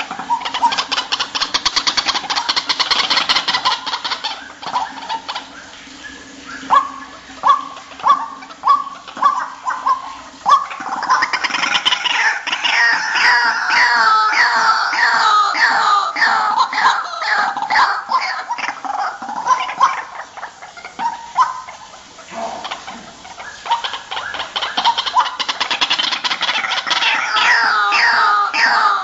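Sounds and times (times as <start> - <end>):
waterhens calling: 0.0 - 29.0.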